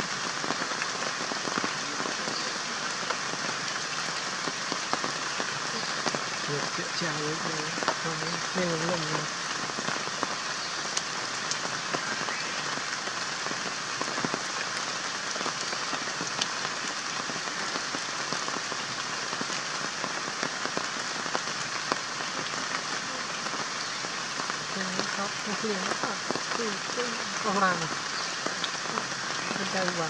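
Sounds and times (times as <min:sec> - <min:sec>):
rain pattering: 0:00.0 - 0:30.0
sharp raindrop ticks: 0:00.1 - 0:30.0.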